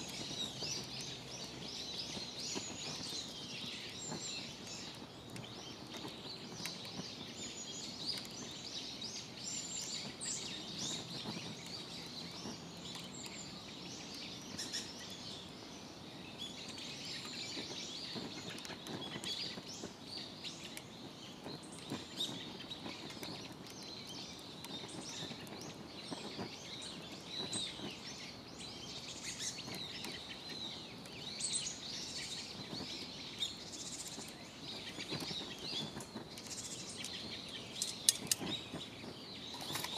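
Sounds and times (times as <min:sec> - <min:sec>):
low outdoor background noise: 0:00.0 - 0:39.9
small birds chirping: 0:00.0 - 0:39.9.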